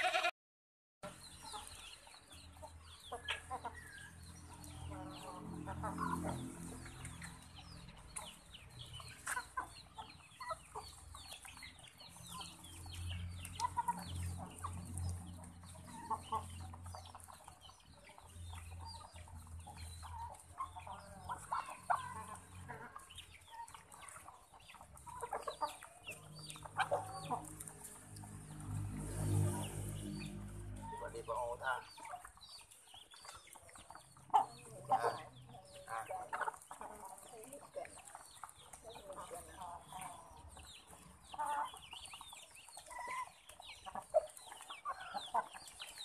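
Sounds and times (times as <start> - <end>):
chickens clucking: 1.0 - 46.0.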